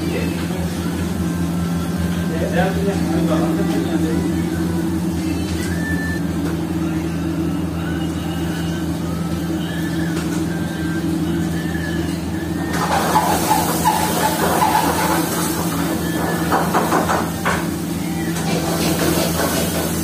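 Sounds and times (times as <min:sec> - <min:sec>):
extractor hood and burners humming: 0:00.0 - 0:20.0.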